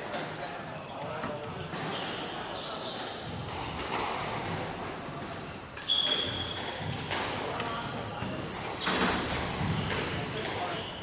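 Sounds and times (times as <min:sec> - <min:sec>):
shoe squeaking on floor: 0:00.4 - 0:11.0.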